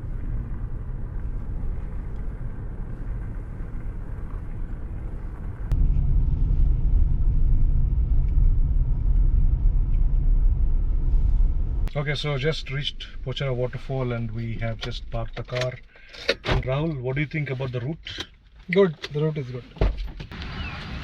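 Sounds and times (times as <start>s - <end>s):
car rumbling on road: 0.0s - 18.2s.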